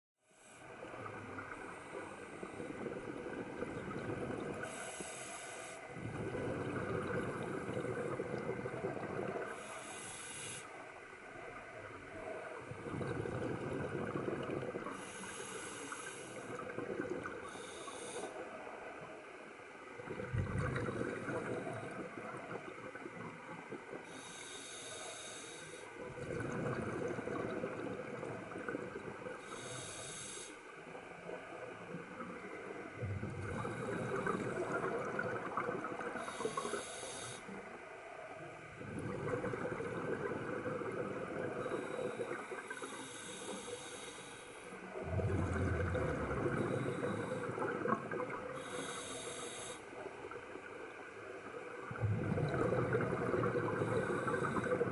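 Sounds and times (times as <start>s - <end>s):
regulator exhale bubbling: 0.5s - 10.8s, 11.8s - 18.5s, 20.0s - 30.6s, 32.2s - 37.7s, 38.7s - 50.4s, 51.7s - 54.9s.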